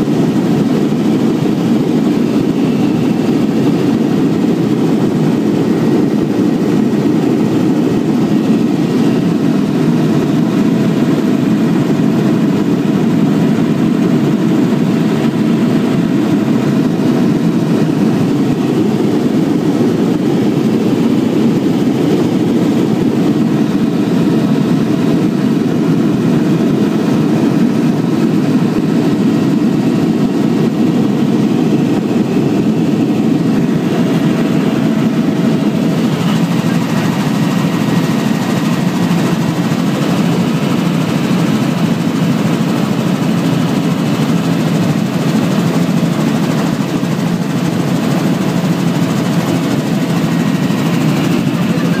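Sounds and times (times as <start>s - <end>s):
helicopter engine and rotor drone: 0.0s - 52.0s.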